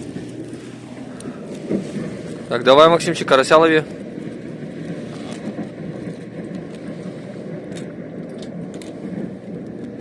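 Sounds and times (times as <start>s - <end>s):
low wind rumble on microphone: 0.0s - 10.0s.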